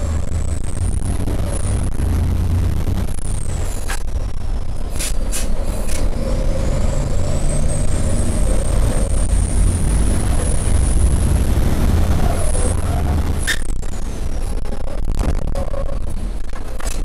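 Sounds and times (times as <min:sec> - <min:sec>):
diesel truck engines rumbling: 0:00.0 - 0:17.0.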